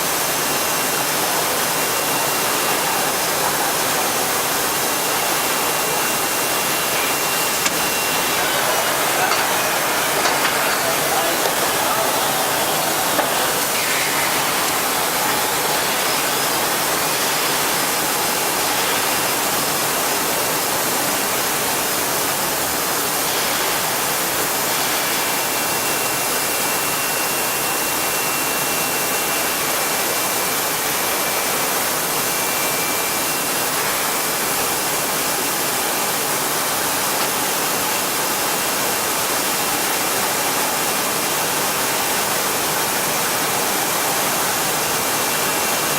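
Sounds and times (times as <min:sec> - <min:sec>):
router running with loud hiss: 0:00.1 - 0:45.9.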